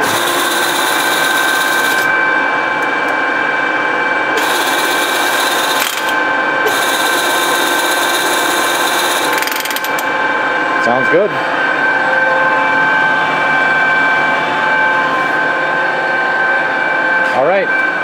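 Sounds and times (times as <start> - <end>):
high steady whine: 0.0 - 9.4, 10.0 - 18.0
lathe running with mechanical drone: 0.0 - 18.0.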